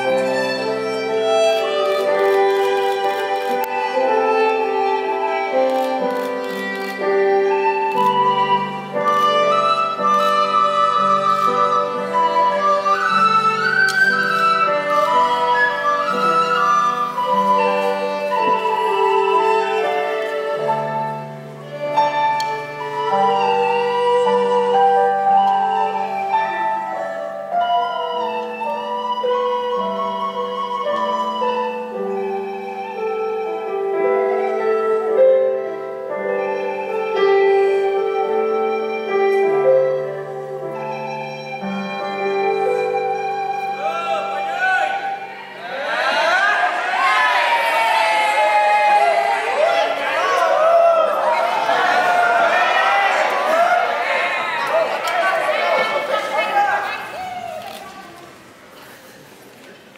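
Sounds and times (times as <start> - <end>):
flute-like melody with sliding notes: 0.0 - 58.5
live instrumental ensemble music: 0.0 - 59.9.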